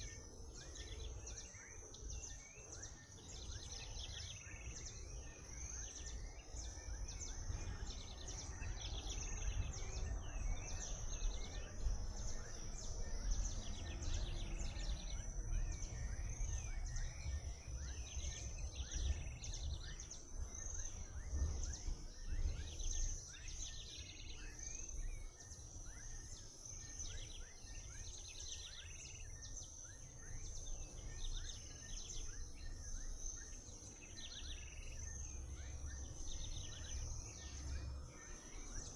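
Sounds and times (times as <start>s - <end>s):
steady high-pitched whine: 0.0s - 38.9s
birds chirping and singing: 0.1s - 38.9s.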